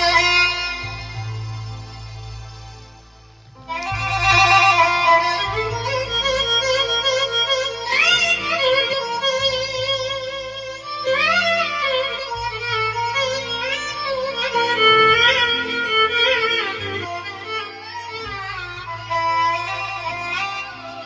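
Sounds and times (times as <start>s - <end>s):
keyboard violin melody: 0.0s - 21.0s
steady bass accompaniment: 0.0s - 21.0s.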